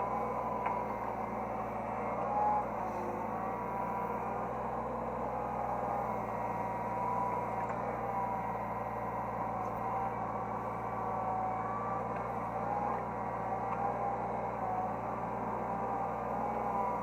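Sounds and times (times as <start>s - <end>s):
excavator engine humming: 0.0s - 17.0s
hydraulic pump whine: 0.0s - 17.0s.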